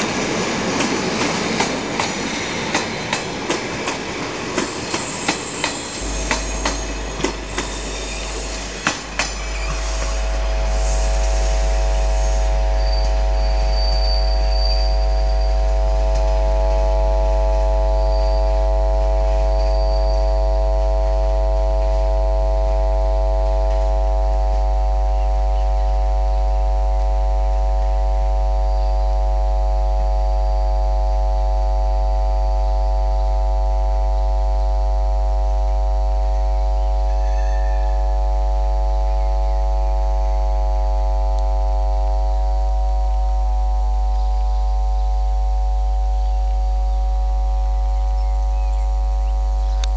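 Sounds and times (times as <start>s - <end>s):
electrical mains hum: 5.7s - 49.9s.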